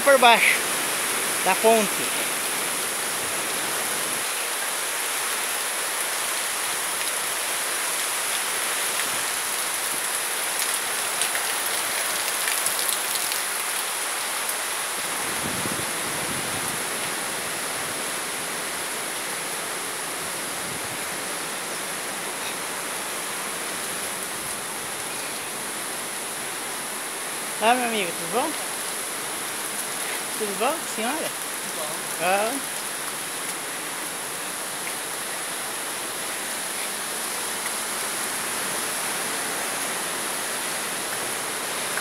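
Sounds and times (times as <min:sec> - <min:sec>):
river rushing over rocks: 0:00.0 - 0:42.0.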